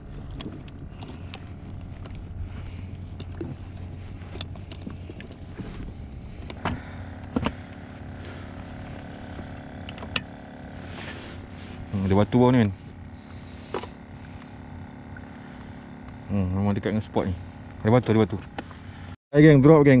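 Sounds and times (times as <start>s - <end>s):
outboard motor humming: 0.0s - 19.2s.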